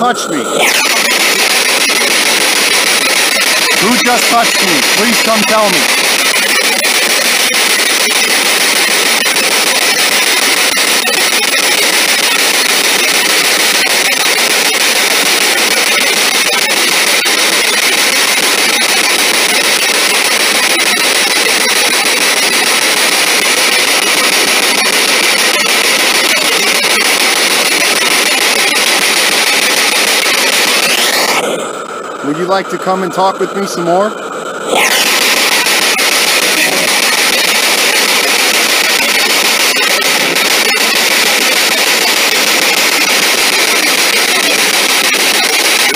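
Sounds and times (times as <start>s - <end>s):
radio static hissing: 0.0s - 45.9s.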